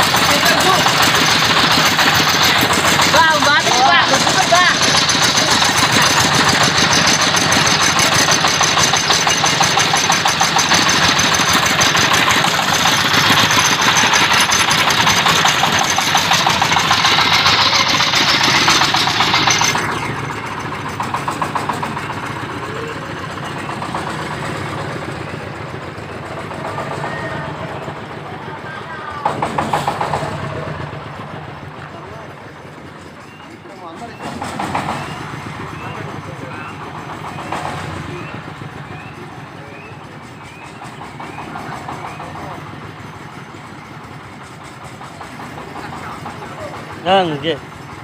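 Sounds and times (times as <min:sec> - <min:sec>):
corn sheller rattling: 0:00.0 - 0:39.2, 0:40.2 - 0:48.0
engine running: 0:00.0 - 0:48.0.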